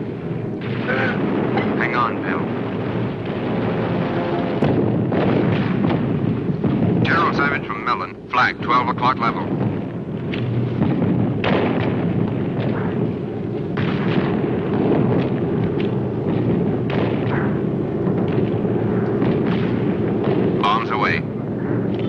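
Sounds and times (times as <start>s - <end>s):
explosions: 0.0s - 22.0s.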